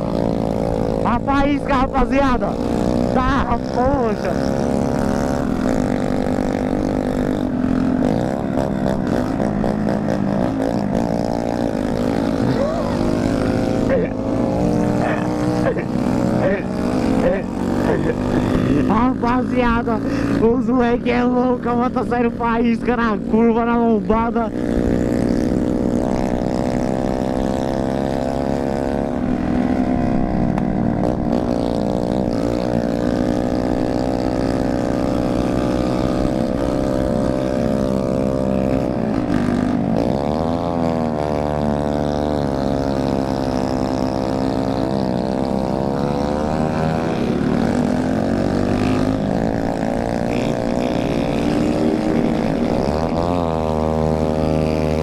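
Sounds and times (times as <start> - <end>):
motorcycle engines buzzing: 0.0 - 55.0.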